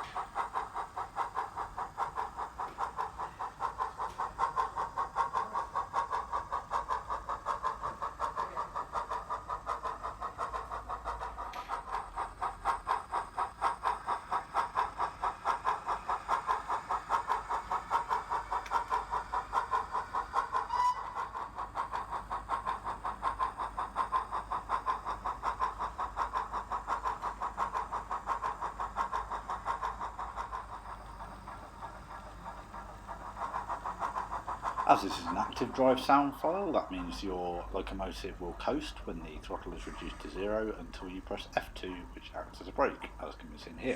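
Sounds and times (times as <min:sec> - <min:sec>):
steam locomotive chuff from speaker: 0:00.0 - 0:43.9.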